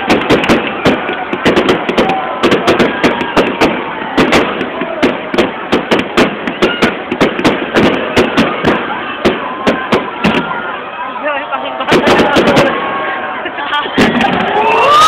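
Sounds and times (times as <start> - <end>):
continuous din: 0.0 - 15.0
fireworks bangs: 0.0 - 15.0.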